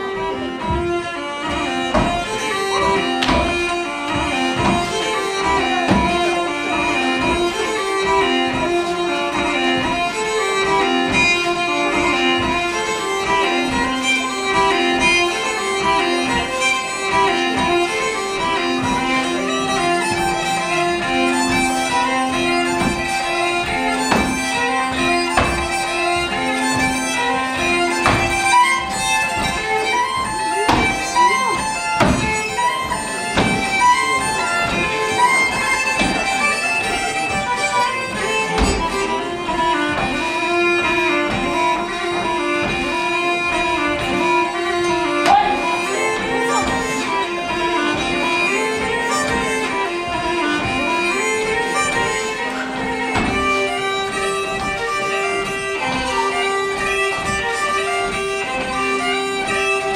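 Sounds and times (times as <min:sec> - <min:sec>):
feet stamping on stage: 0:00.0 - 0:59.9
solo fiddle playing folk dance tune: 0:00.0 - 0:59.9.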